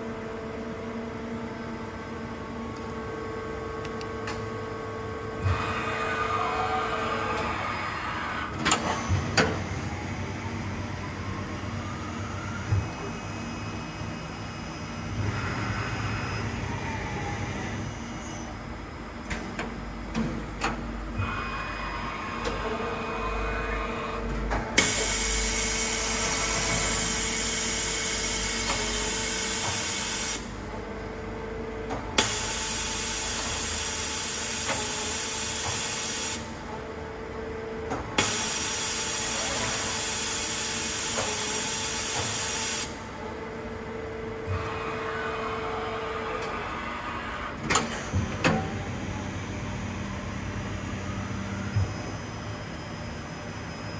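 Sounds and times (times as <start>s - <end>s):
spindle whine and hum: 0.0s - 32.1s, 42.2s - 53.9s.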